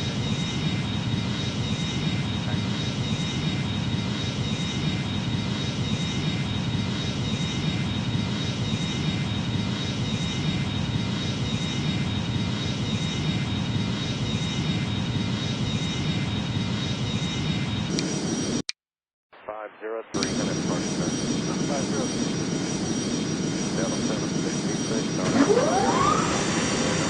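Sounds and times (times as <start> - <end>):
jet engines idling: 0.0 - 18.6, 19.4 - 27.0.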